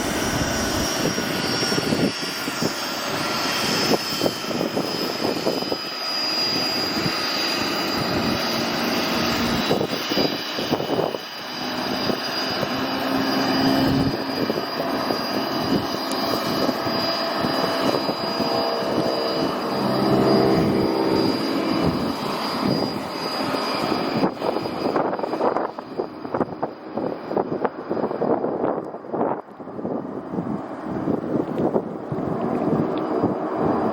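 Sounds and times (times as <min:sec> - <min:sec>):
propeller plane engine at takeoff: 0:00.0 - 0:33.9.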